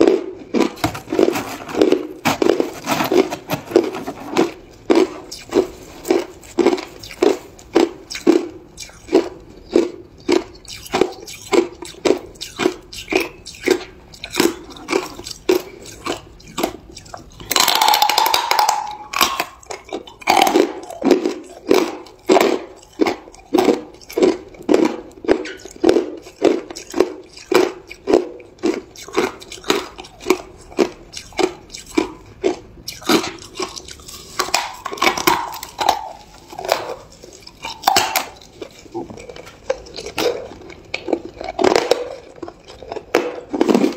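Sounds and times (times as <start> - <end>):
chewing hard ice: 0.0 - 43.9.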